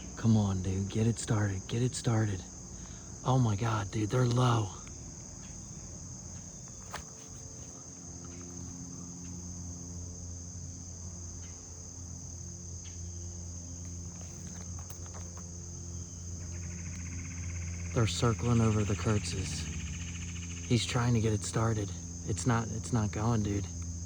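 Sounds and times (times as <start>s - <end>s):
low steady drone: 0.0s - 6.6s, 7.6s - 24.0s
crickets chirping: 0.0s - 24.0s.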